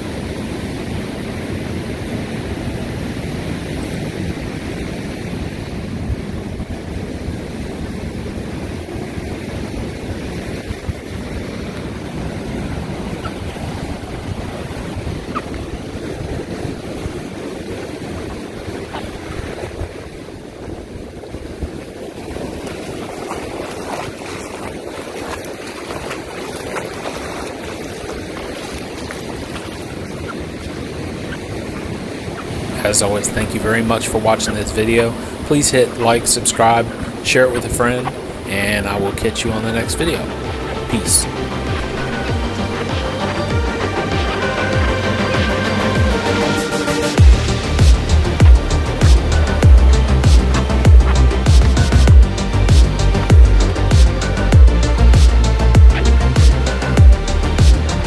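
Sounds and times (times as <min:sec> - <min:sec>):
ocean surf breaking: 0:00.0 - 0:58.0
wind rumbling on microphone: 0:00.0 - 0:58.0.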